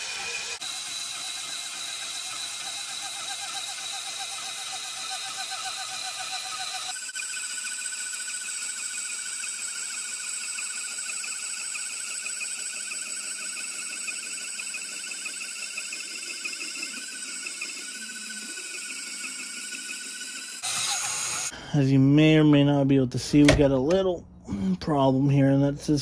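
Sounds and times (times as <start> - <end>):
band saw cutting steel: 0.0 - 21.5.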